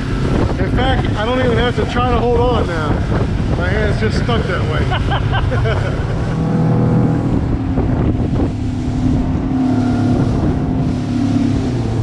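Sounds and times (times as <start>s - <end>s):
motorboat engine running: 0.0s - 12.0s
water along hull: 0.0s - 12.0s
wind on microphone: 0.0s - 12.0s.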